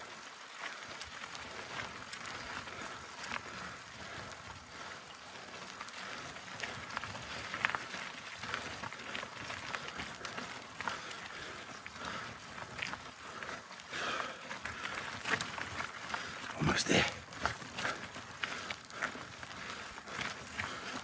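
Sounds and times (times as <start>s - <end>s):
bike tyres rolling on gravel: 0.0s - 21.0s.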